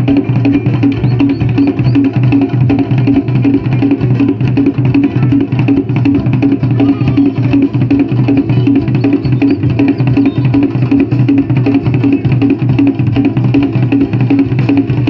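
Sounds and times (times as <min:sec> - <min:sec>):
hand drumming on wooden drums: 0:00.0 - 0:15.0.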